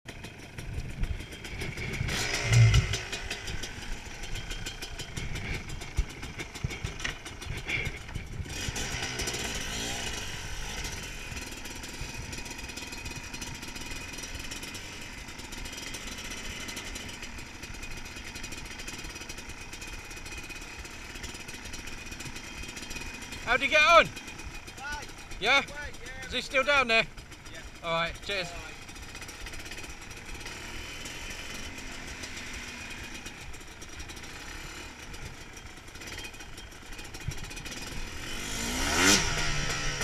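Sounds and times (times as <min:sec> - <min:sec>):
motorbike engine at low revs: 0:00.1 - 0:40.0.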